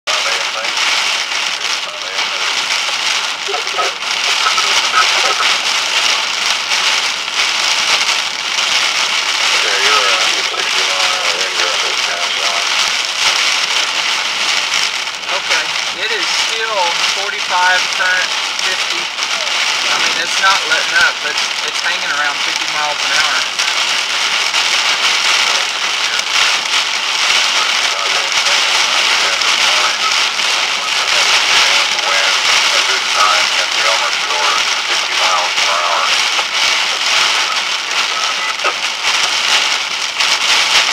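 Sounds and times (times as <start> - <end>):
wind-driven rain hissing on car: 0.1 - 40.9.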